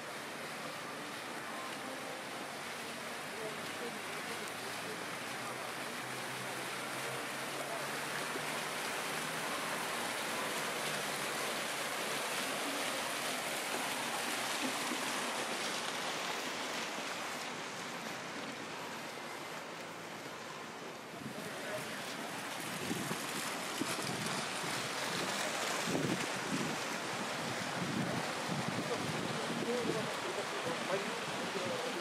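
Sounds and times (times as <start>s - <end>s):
fountain jets splashing into pool: 0.0s - 32.0s.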